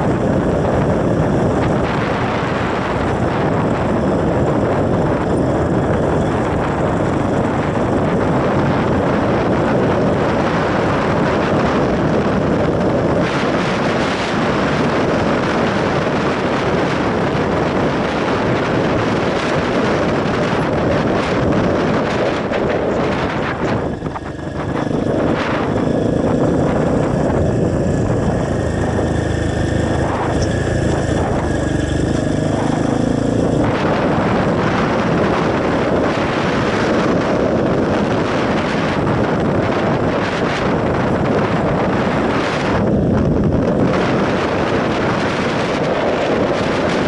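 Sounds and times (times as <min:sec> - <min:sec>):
motorcycle engine running: 0:00.0 - 0:47.0
wind rushing over microphone: 0:00.0 - 0:47.0.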